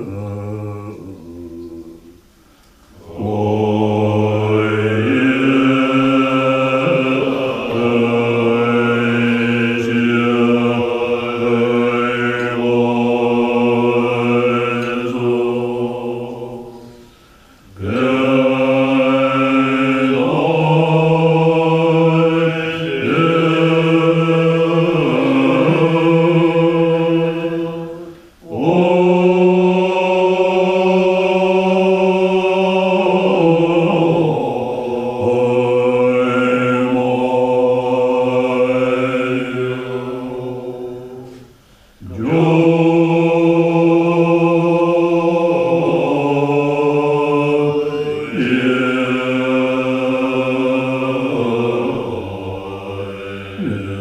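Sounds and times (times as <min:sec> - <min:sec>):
monks chanting in deep tones: 0:00.0 - 0:02.3, 0:02.9 - 0:54.0.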